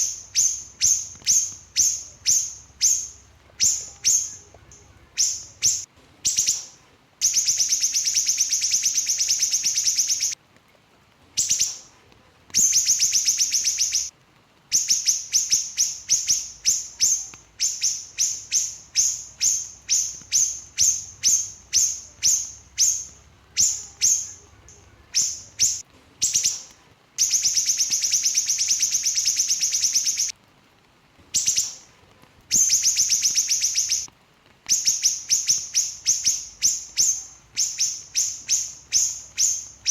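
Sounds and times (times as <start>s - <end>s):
songbird trilling and chirping: 0.0s - 10.4s, 11.4s - 11.9s, 12.6s - 14.1s, 14.7s - 30.3s, 31.4s - 31.8s, 32.5s - 34.1s, 34.7s - 39.9s.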